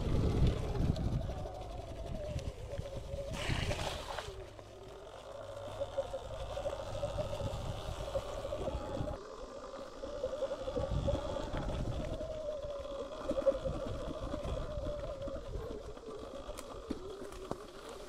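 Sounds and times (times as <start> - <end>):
low rumbling noise: 0.0 - 16.0
electric dirt bike whining: 0.0 - 18.0.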